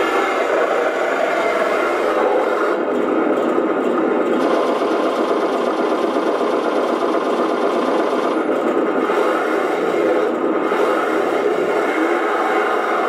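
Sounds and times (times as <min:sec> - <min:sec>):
simulated tank engine from speaker: 0:00.0 - 0:06.2, 0:07.8 - 0:13.0.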